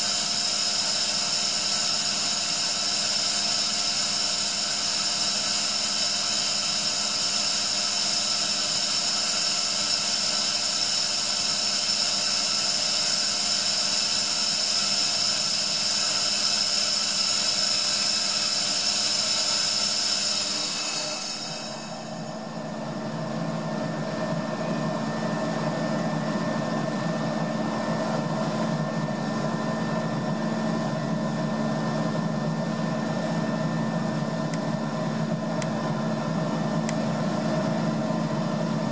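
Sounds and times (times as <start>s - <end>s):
air compressor whining: 0.0s - 38.9s.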